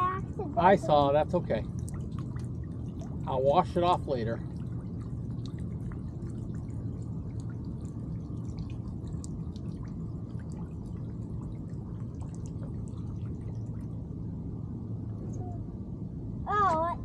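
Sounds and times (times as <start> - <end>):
liquid trickling and dripping: 0.0 - 15.6
steady low hum: 0.0 - 17.0.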